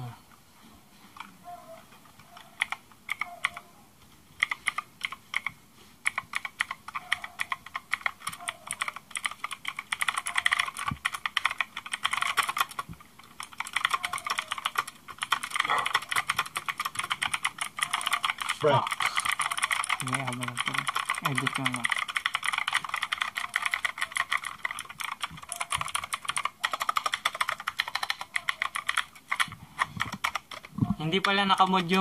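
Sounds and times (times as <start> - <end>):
mechanical keyboard typing: 2.2 - 3.7, 4.4 - 32.0.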